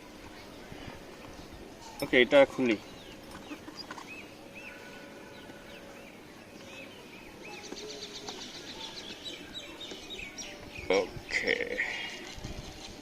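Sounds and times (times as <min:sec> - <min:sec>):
bird chirps: 0:01.4 - 0:12.2.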